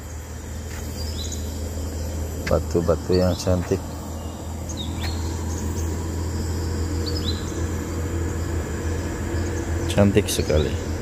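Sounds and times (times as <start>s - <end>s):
high bird chirps: 0.0s - 10.9s
steady low rumble: 0.0s - 11.0s.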